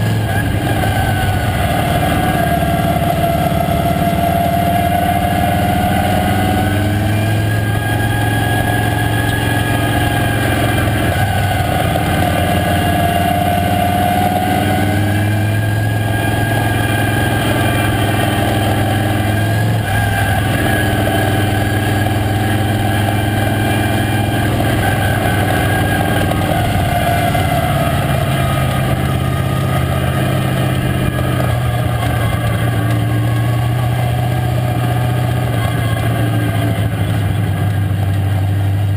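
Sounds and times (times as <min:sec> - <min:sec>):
racing car engine running hard: 0:00.0 - 0:38.9.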